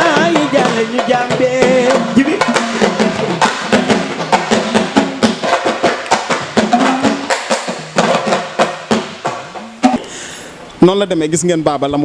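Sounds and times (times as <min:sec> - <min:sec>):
fast hand drumming: 0:00.0 - 0:10.0.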